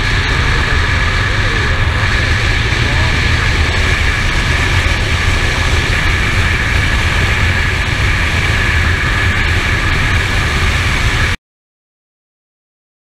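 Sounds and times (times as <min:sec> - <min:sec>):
motorcycle engine running: 0:00.0 - 0:11.4
wind rush buffeting microphone: 0:00.0 - 0:11.4.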